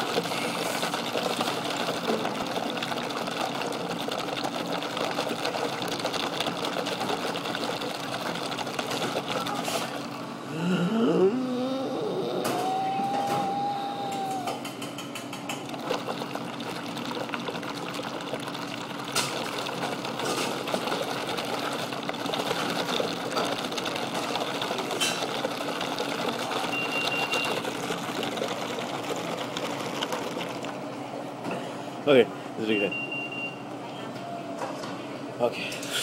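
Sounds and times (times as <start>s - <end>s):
bubbling through straw in drink: 0.0s - 31.3s.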